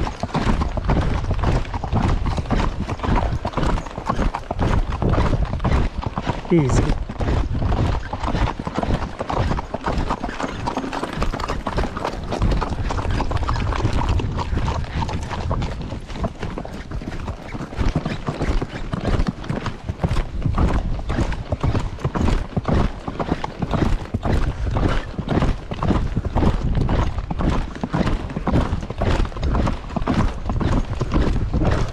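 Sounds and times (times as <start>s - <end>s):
horse hoofbeats on dirt: 0.0s - 31.9s.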